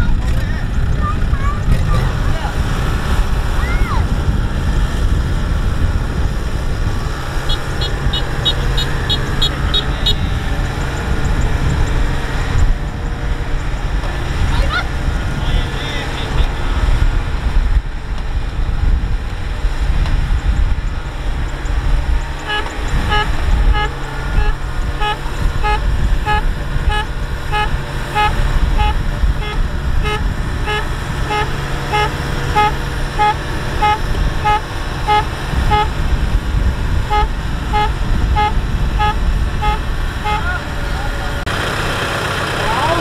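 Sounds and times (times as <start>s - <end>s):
diesel engine rumbling: 0.0s - 43.0s.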